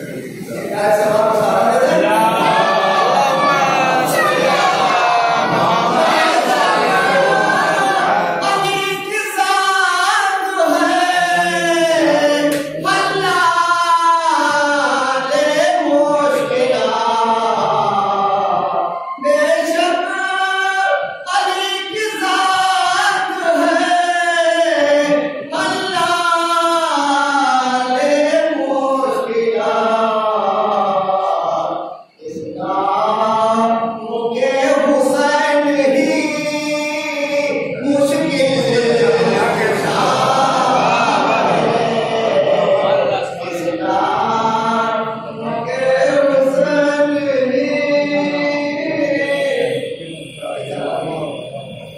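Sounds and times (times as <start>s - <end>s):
man singing through a pa: 0.0s - 51.9s.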